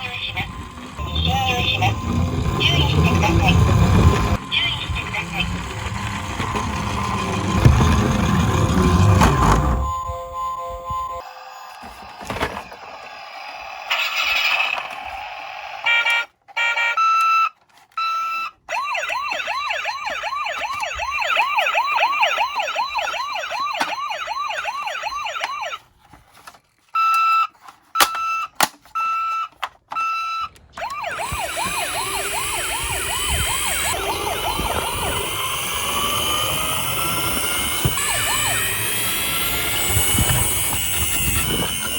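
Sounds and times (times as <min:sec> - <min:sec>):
electronic siren yelp: 0:00.0 - 0:17.4, 0:18.0 - 0:25.8, 0:30.0 - 0:41.9
toy siren beeps: 0:00.0 - 0:25.8, 0:26.9 - 0:41.9.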